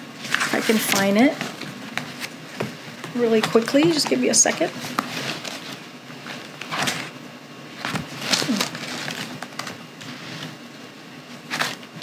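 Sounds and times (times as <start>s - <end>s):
paper pages rustling: 0.2s - 7.2s, 7.8s - 10.6s, 11.3s - 12.0s.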